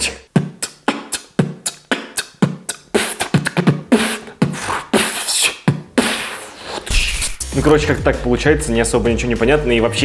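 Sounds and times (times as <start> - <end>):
person beatboxing: 0.0 - 8.2.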